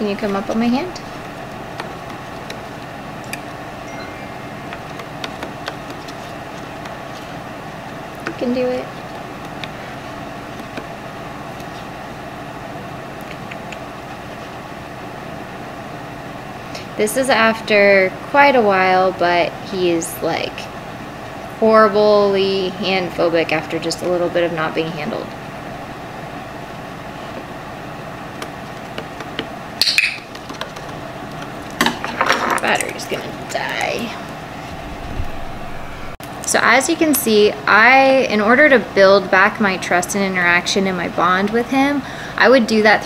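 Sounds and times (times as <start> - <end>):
room hum and hiss: 0.0 - 43.0
steady background noise: 0.0 - 43.0.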